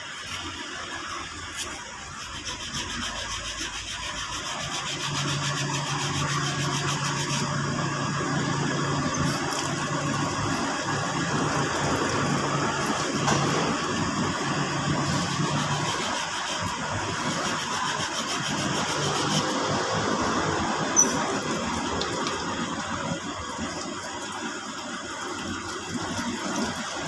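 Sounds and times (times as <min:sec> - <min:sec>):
engine humming: 0:04.9 - 0:27.0.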